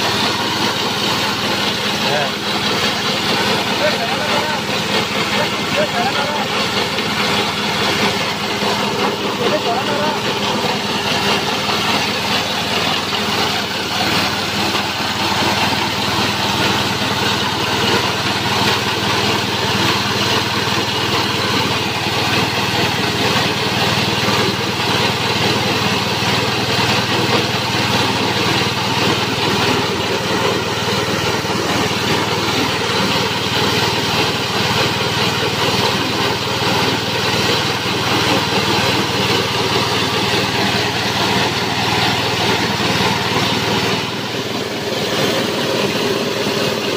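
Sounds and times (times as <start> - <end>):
grass chopper cutting forage: 0.0 - 46.9
small petrol engine running: 0.0 - 46.9.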